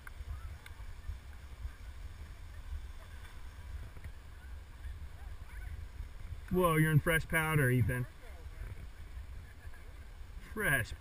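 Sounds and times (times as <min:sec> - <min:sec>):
skis sliding over snow: 0:00.0 - 0:11.0
wind buffeting microphone: 0:00.0 - 0:11.0.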